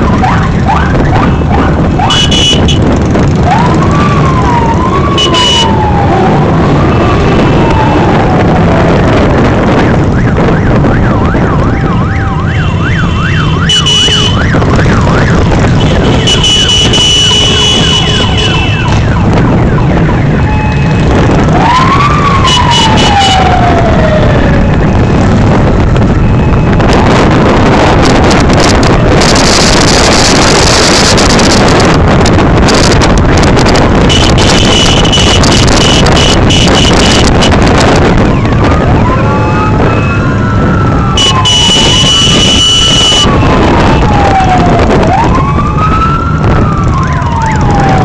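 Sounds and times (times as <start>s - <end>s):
siren wailing: 0.0s - 2.5s, 3.3s - 48.0s
wind on microphone: 0.0s - 48.0s.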